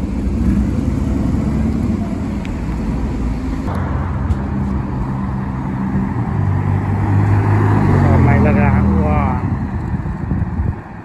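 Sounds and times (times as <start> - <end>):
road noise: 0.0 - 11.0
traffic: 0.0 - 11.0.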